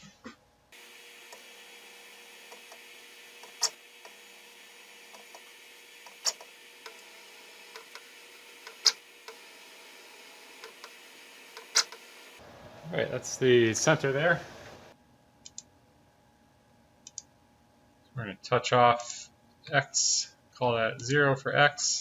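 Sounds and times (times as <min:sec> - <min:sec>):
faint steady hum: 0:00.4 - 0:21.9.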